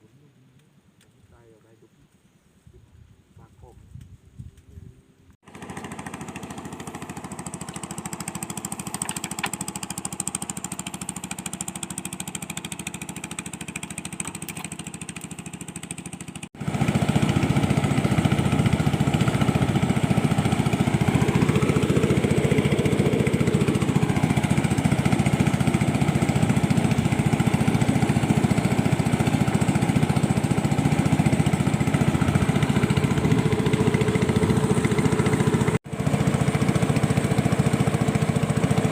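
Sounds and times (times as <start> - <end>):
small engine running: 5.4 - 38.9.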